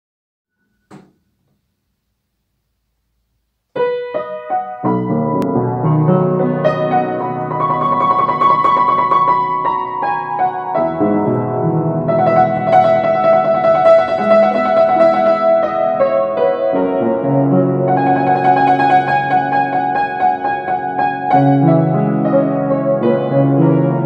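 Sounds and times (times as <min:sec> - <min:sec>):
piano-like keyboard music: 0:03.7 - 0:24.0.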